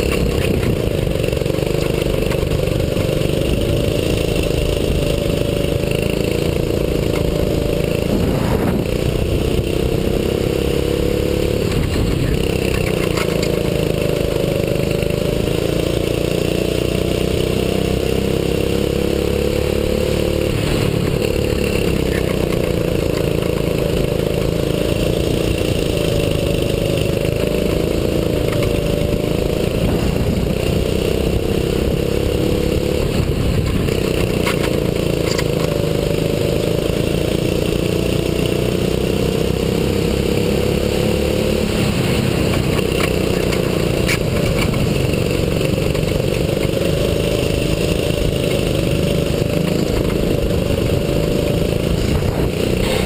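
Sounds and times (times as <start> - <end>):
kart engine running hard: 0.0 - 53.0.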